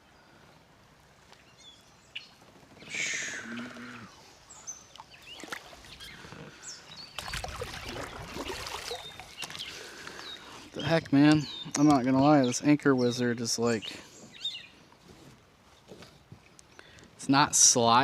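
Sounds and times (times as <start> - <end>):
small birds chirping: 1.2 - 18.0.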